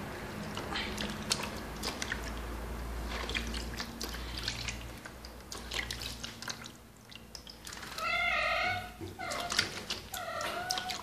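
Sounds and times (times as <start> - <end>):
water splashing in plastic basin: 0.3 - 11.0
wet fur squelching: 0.4 - 11.0.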